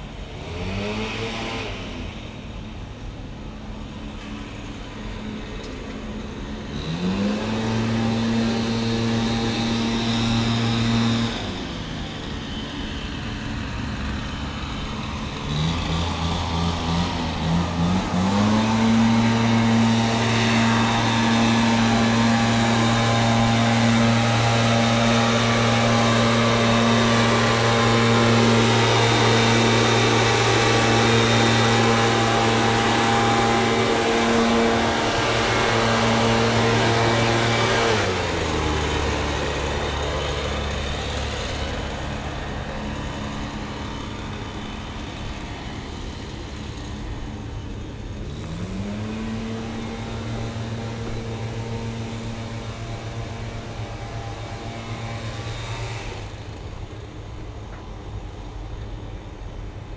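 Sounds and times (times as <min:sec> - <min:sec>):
small engine revving: 0:00.0 - 0:59.3.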